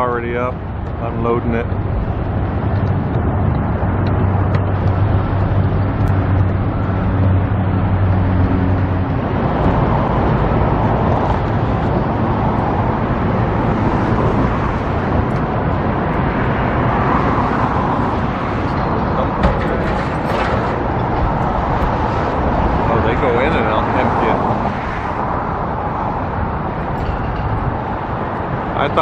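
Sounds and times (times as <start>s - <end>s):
engine humming: 0.0s - 29.0s
traffic rumble: 0.0s - 29.0s.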